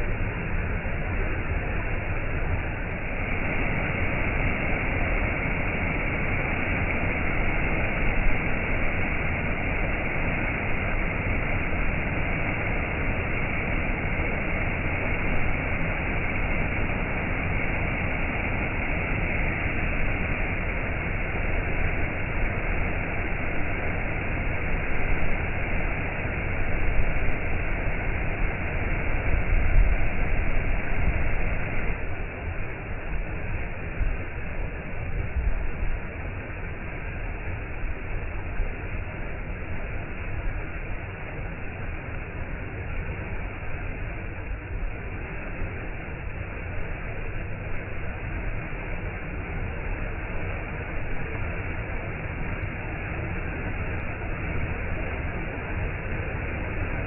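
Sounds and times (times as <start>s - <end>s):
waterfall rushing: 0.1s - 57.0s.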